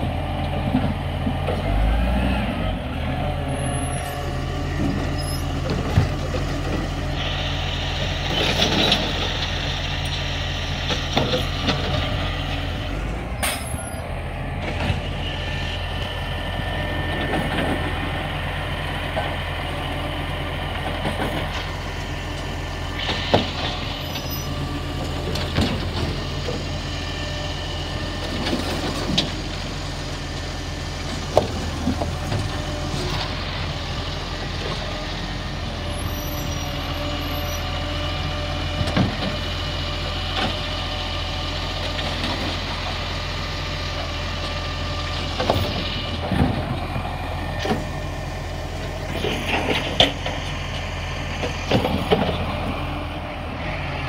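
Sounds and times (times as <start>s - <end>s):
hydraulics whining: 0.0s - 54.0s
truck engine running: 0.0s - 54.0s.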